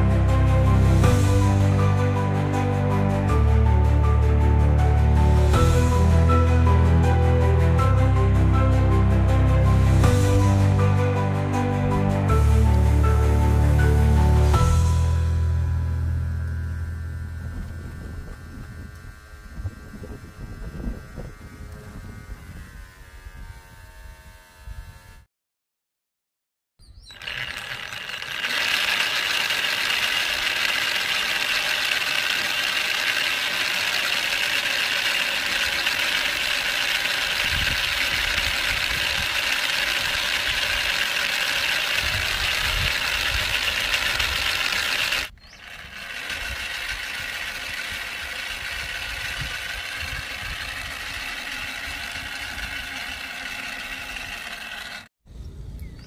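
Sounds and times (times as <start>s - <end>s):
electric motor whirring: 0.0s - 2.7s, 4.8s - 7.2s, 12.3s - 25.3s, 27.0s - 55.1s.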